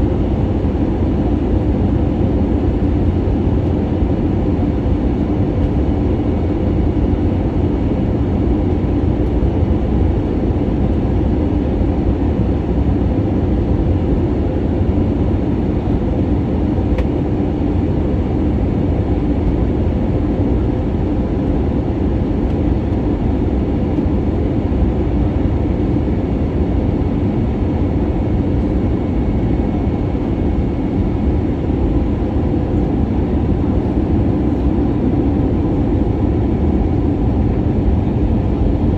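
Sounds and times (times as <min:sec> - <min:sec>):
airliner cabin rush and rumble: 0:00.0 - 0:38.9.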